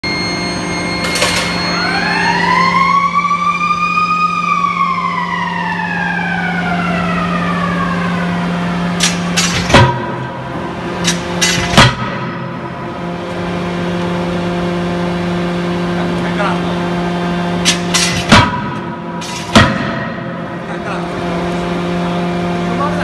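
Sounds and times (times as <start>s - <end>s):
machine hum: 0.0s - 23.0s
machine whine: 0.0s - 23.0s.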